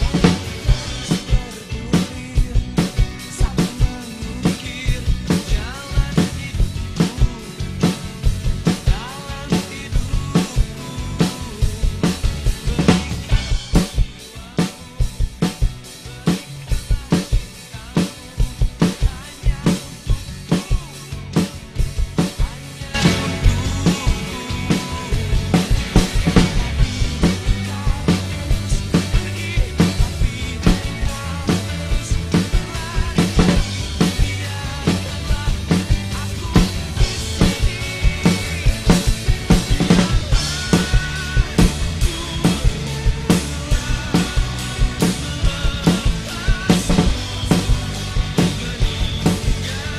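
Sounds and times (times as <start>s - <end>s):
bass drum thumps: 0.0s - 9.1s, 9.8s - 14.2s, 21.7s - 49.9s
backing track music: 0.0s - 49.9s.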